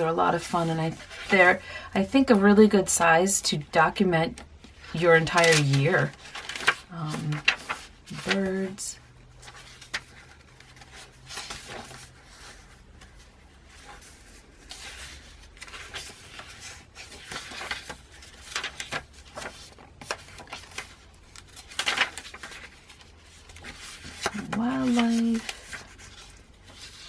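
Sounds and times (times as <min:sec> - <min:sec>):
paper pages turning: 0:00.0 - 0:01.6, 0:04.2 - 0:27.0.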